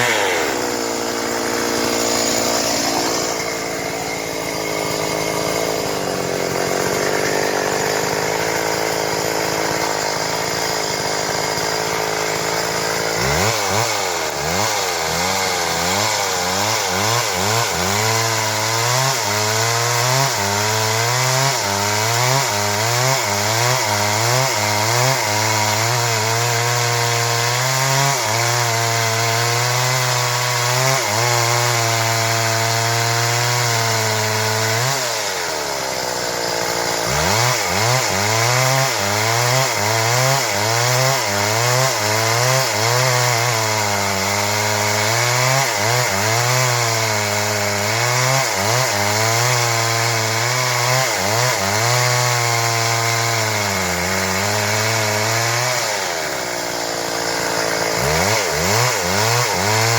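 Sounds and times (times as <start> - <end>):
chainsaw cutting through wood: 0.0 - 59.9.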